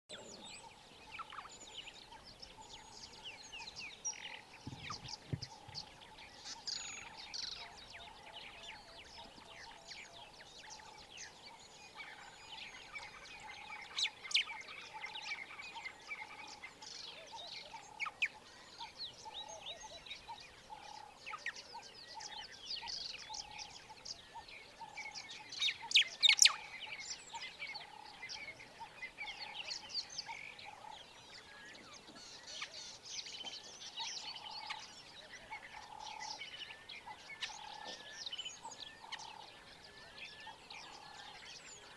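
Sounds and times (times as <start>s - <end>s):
birds chirping: 0.1s - 41.9s.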